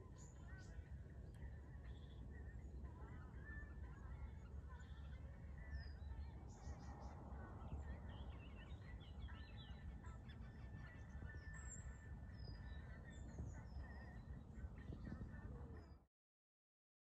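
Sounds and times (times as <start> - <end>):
birds chirping: 0.0 - 16.0
low wind rumble: 0.0 - 16.0.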